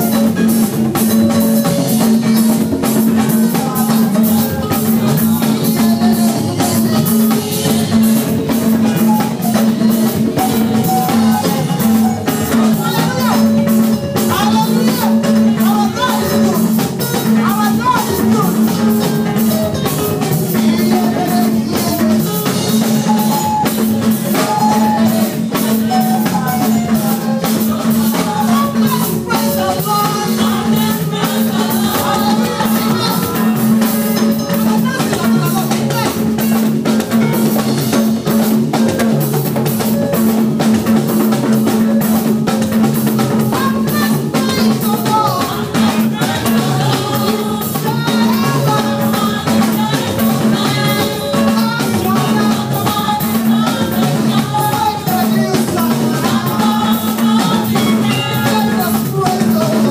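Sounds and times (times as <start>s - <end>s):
backing singers: 0.0s - 59.9s
drum kit: 0.0s - 59.9s
woman singing lead: 0.0s - 59.9s.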